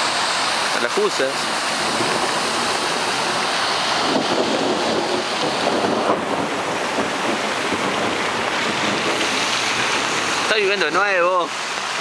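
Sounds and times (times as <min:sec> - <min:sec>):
heavy rain: 0:00.0 - 0:12.0
water rushing down a street: 0:00.0 - 0:12.0.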